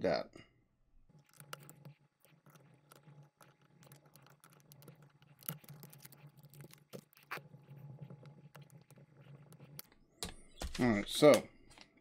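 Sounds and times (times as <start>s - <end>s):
small tool clicking and scraping: 1.1s - 10.8s.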